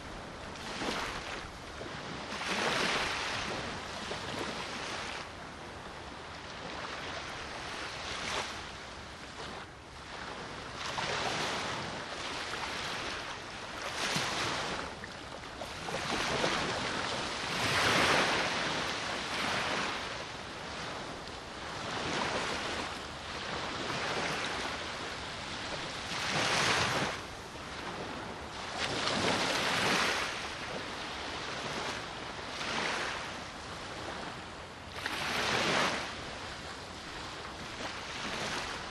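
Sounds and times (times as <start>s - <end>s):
small waves breaking on shore: 0.0s - 38.9s.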